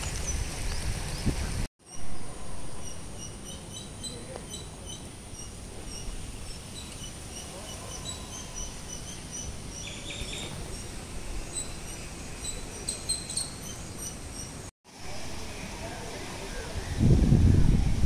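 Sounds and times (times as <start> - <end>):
birds chirping: 0.0 - 14.7.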